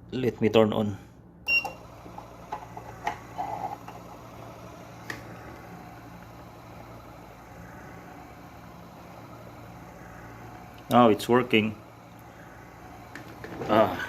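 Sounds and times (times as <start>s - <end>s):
massager motors humming: 1.5s - 14.0s.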